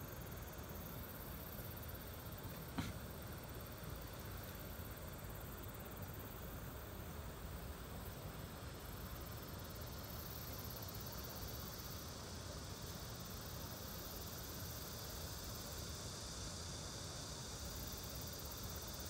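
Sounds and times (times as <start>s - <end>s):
insects chorus: 0.0s - 19.0s.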